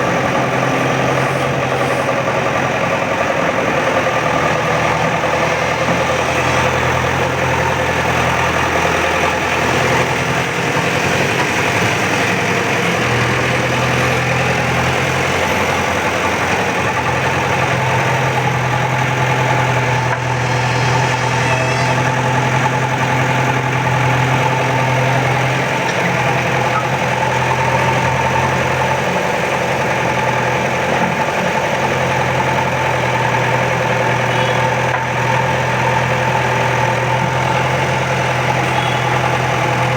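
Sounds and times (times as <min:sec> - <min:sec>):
diesel engine of digging machine: 0:00.0 - 0:39.9.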